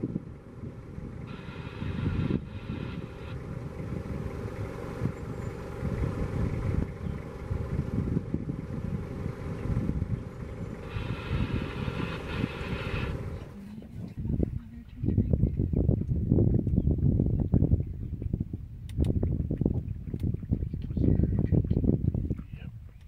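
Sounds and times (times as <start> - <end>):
vehicle engine running at low revs: 0.0 - 23.0.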